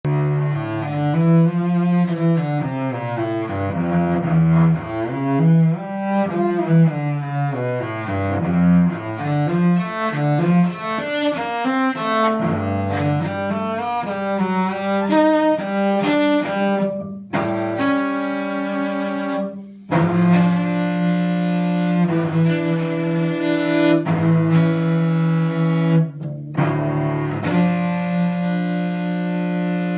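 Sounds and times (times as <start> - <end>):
bowed cello melody: 0.0 - 29.9.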